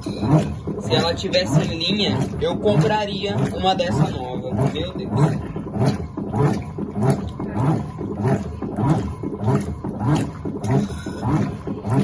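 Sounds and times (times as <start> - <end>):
washing machine agitating clothes: 0.0 - 12.0.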